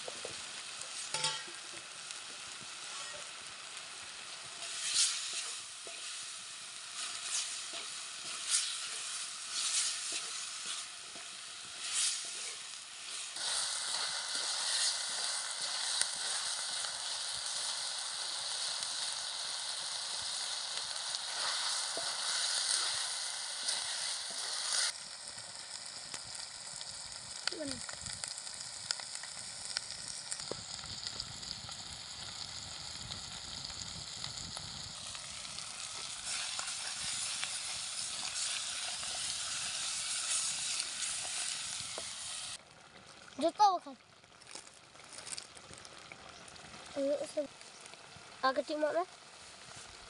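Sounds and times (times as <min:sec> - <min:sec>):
chicken sizzling in a pot: 0:00.0 - 0:50.0.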